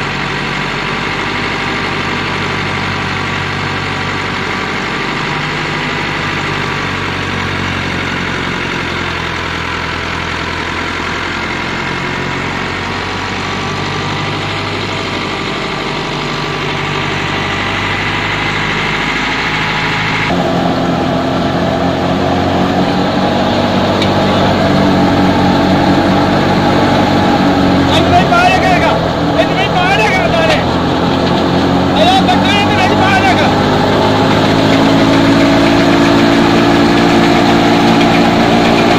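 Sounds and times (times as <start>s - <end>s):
thresher running: 0.0s - 38.9s
tractor diesel engine running: 0.0s - 38.9s.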